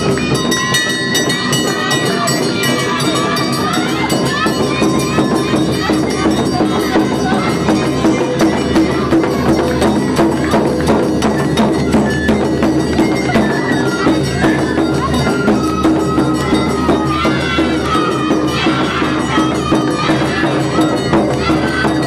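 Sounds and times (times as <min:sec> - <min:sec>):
crowd voices: 0:00.0 - 0:22.0
drums beating steady rhythm: 0:00.0 - 0:22.0.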